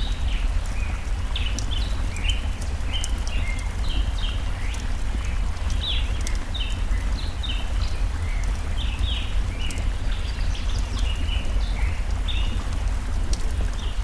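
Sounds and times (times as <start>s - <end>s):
campfire crackles: 0.0s - 14.0s
small birds chirping: 0.0s - 14.0s.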